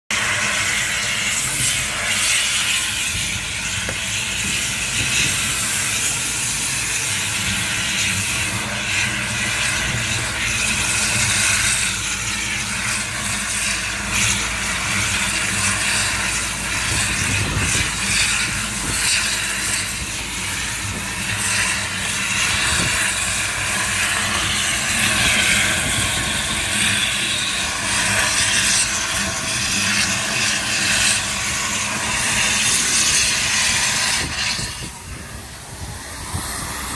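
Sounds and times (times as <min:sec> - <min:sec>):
cutting torch hissing: 0:00.1 - 0:36.9.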